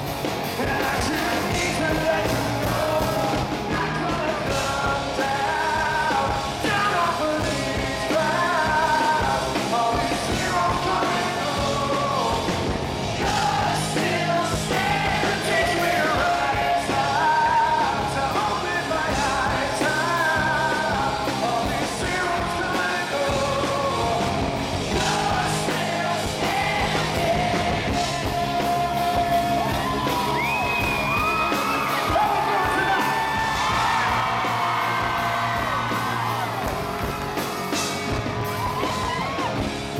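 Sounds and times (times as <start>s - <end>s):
drums: 0.0s - 39.9s
electric guitars: 0.0s - 39.9s
rock band playing live: 0.0s - 39.9s
man singing: 0.4s - 36.3s.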